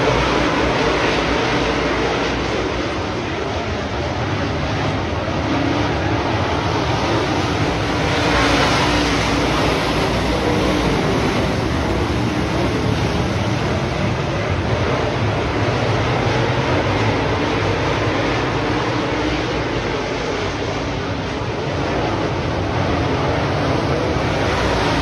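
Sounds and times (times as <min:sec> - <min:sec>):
race car engines: 0:00.0 - 0:25.0.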